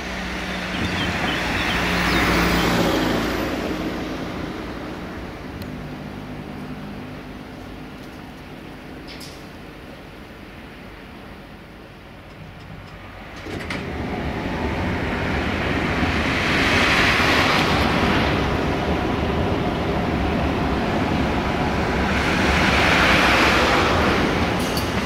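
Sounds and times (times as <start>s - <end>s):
tram rolling rumble and hiss: 0.0s - 25.0s.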